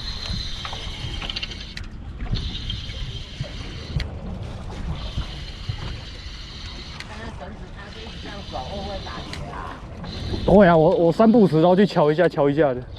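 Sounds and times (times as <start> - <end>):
sea at the shore: 0.0 - 12.9
wind: 0.0 - 12.9.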